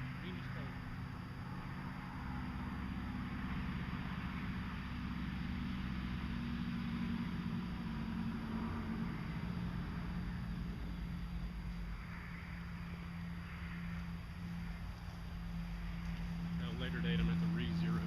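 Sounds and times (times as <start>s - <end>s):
low mechanical hum: 0.0s - 18.0s
outdoor noise hiss: 0.0s - 18.0s.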